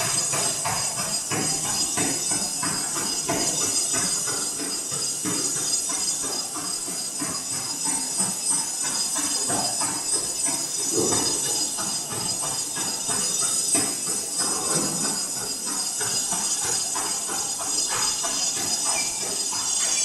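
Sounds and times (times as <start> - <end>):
shoes striking treadmill belt: 0.0 - 20.0
treadmill hiss: 0.0 - 20.0.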